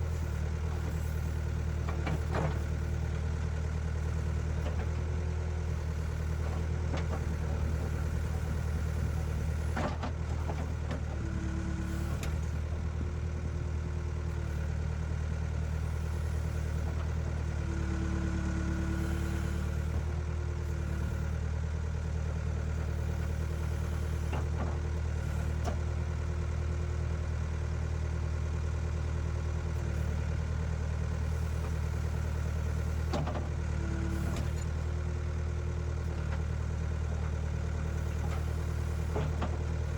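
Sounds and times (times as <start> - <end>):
heavy machinery engine humming: 0.0 - 39.9.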